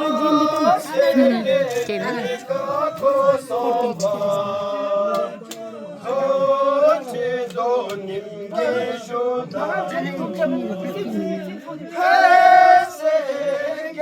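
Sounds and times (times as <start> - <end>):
men chanting: 0.0 - 14.0.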